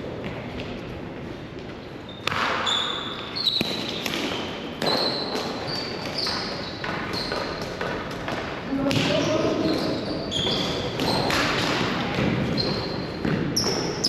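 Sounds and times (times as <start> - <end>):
shoes squeaking on court: 1.5 - 14.0.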